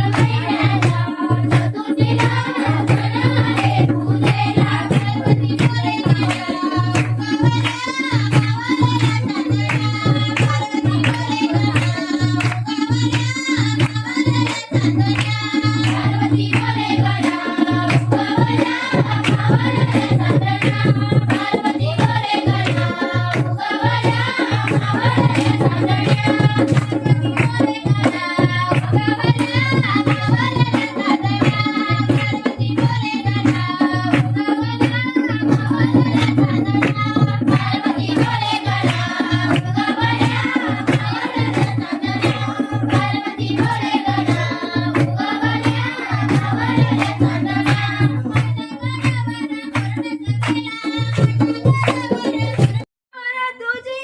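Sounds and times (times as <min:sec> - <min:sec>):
young voices singing folk song: 0:00.0 - 0:52.8
fast hand drum beat: 0:00.0 - 0:52.9.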